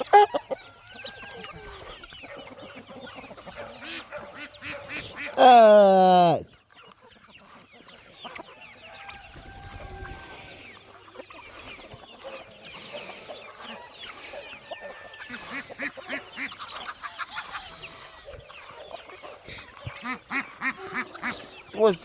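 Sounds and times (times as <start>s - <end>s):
chickens clucking and chirping: 0.0s - 5.4s, 6.6s - 22.0s
low chicken clucks: 0.0s - 5.4s, 6.6s - 22.0s.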